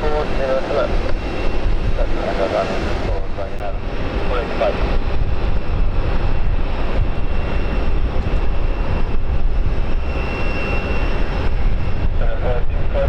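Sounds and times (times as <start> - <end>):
aircraft landing roar: 0.0 - 13.0.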